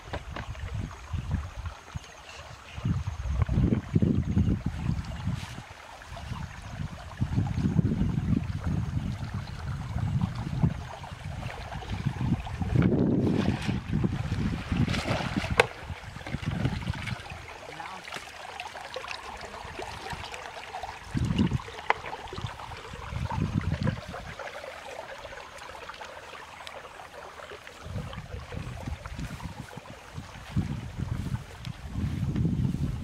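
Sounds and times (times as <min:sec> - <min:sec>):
wind rumble on microphone: 0:00.0 - 0:17.9, 0:19.2 - 0:25.4, 0:27.7 - 0:33.0
shallow water trickling and splashing: 0:00.0 - 0:33.0.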